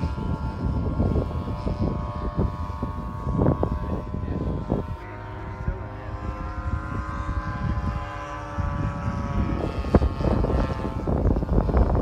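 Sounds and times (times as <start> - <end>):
model airplane engine droning: 0.0 - 12.0
wind buffeting microphone: 0.0 - 12.0.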